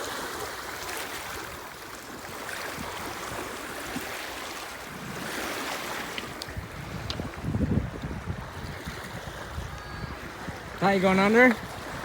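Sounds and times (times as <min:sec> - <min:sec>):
waves washing on shore: 0:00.0 - 0:12.0.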